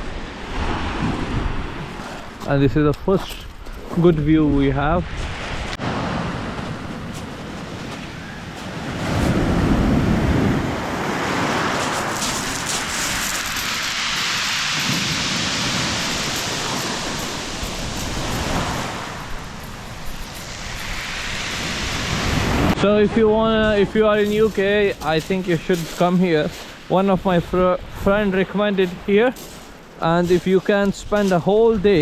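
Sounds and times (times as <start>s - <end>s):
sea surf: 0.0s - 2.8s, 4.4s - 32.0s
wind on microphone: 0.0s - 26.5s.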